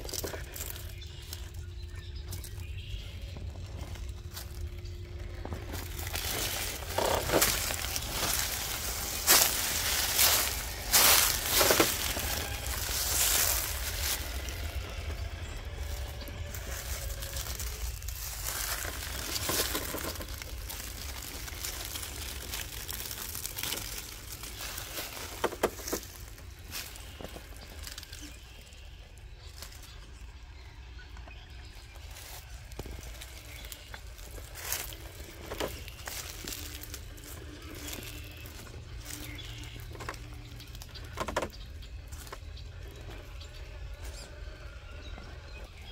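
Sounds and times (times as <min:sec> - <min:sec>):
leaves and stones crunching under tyres: 0:00.0 - 0:45.9.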